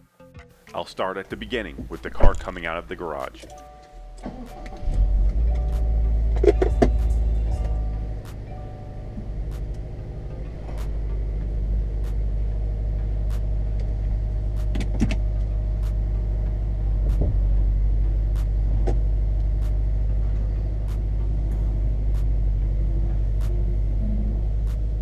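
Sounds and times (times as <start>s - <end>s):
car engine idling: 1.3s - 25.0s.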